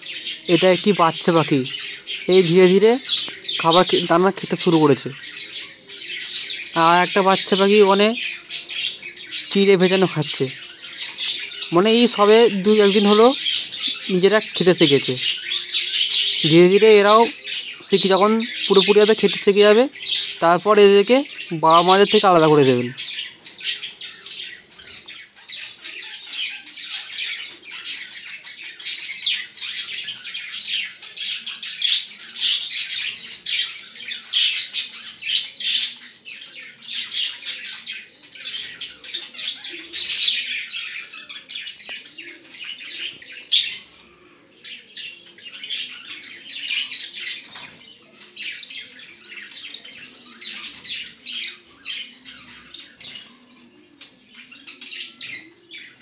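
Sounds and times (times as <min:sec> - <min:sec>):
finches chirping: 0:00.0 - 0:56.0.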